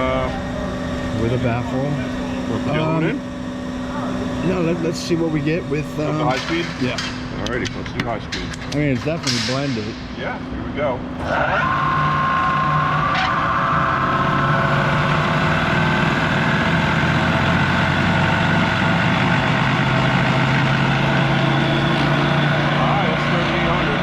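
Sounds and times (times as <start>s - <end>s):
mixer motor and blade whir: 0.0s - 7.0s, 11.2s - 24.0s.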